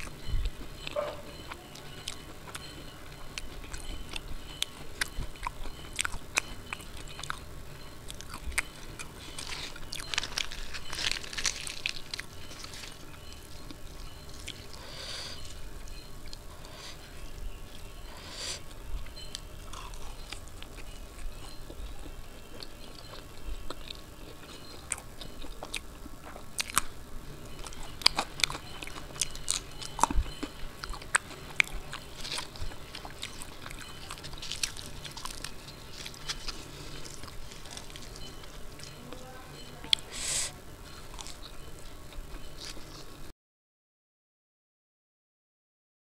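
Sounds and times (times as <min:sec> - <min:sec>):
close chewing and biting: 0:00.0 - 0:43.3.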